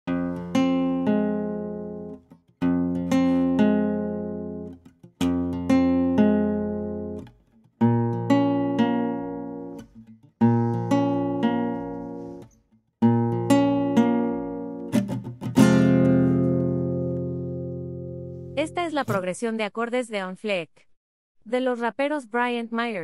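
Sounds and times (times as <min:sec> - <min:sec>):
acoustic guitar chords: 0:00.1 - 0:19.3.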